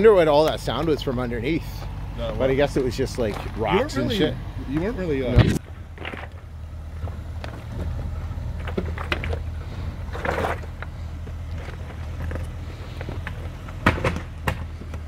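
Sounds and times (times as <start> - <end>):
low engine rumble: 0.0 - 15.0
stones crunching under tyres: 0.3 - 4.0, 4.7 - 15.0.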